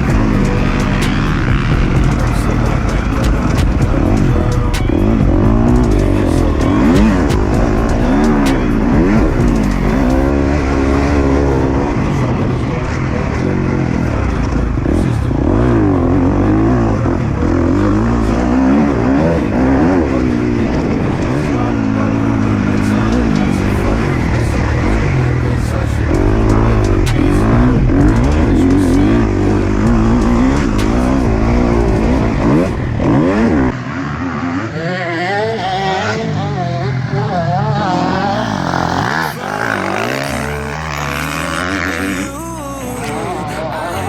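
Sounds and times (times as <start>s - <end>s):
motocross engine revving: 0.0s - 44.0s.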